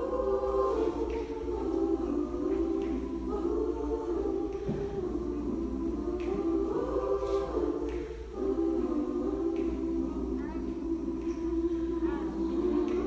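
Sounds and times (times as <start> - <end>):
women's choir singing: 0.0 - 13.0.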